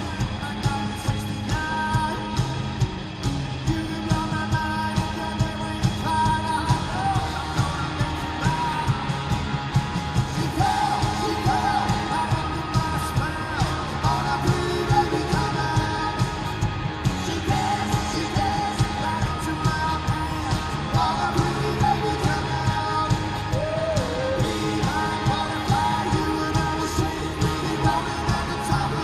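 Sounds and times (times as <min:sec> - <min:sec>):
person singing: 0:00.0 - 0:02.6, 0:03.6 - 0:09.4, 0:10.2 - 0:29.0
drums steady beat: 0:00.0 - 0:29.0
rock band playing: 0:00.0 - 0:29.0.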